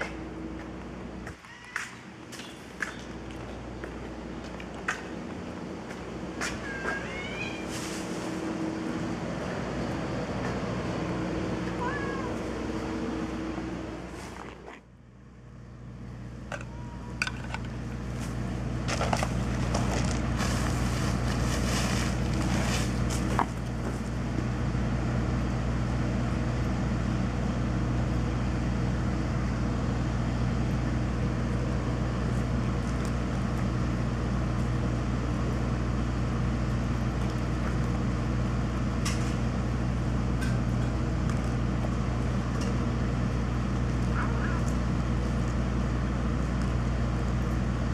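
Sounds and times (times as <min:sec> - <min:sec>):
transformer humming: 0:00.0 - 0:47.9.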